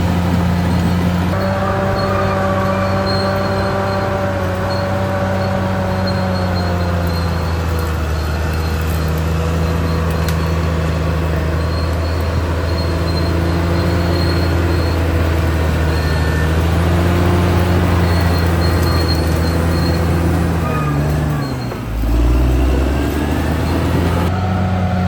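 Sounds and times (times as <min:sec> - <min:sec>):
bulldozer diesel engine running: 0:00.0 - 0:25.0
faint high squeal: 0:00.7 - 0:22.3.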